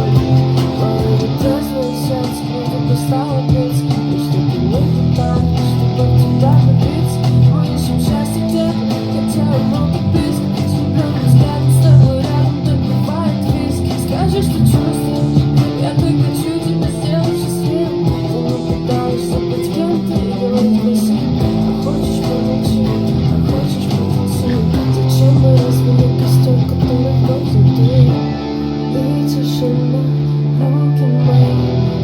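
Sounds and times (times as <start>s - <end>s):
guitar strumming chords: 0.0s - 32.0s.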